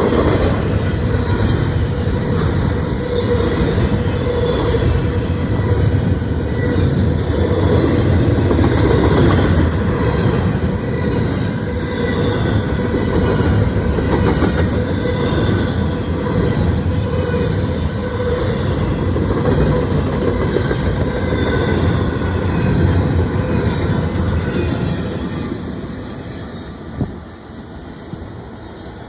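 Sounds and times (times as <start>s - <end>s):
freight train wheels rumbling on rail: 0.0s - 29.0s.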